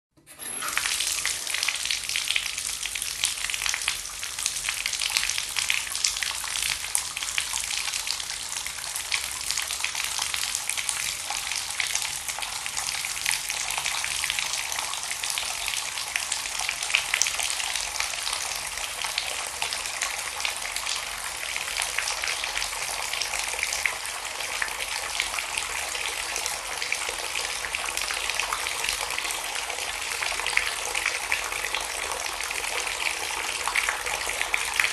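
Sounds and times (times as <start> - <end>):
water pouring: 0.4 - 34.9.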